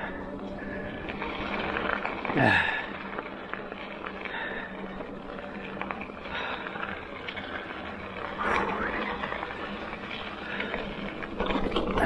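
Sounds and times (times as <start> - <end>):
bike clicks and rattles: 0.0 - 12.0
bike tyres rolling on dirt: 0.0 - 12.0.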